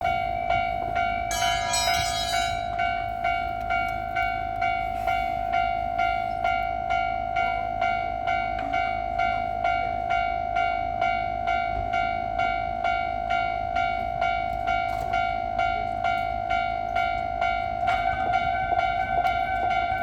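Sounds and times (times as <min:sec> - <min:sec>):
level crossing warning bell ringing: 0:00.0 - 0:20.0.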